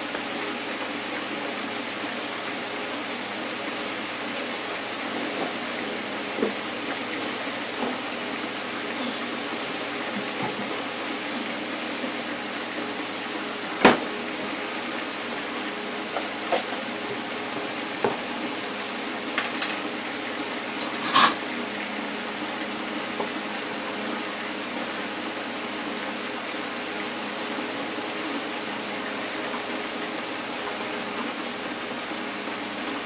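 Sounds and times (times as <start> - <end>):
hot oil sizzling in a deep fryer: 0.0 - 33.0.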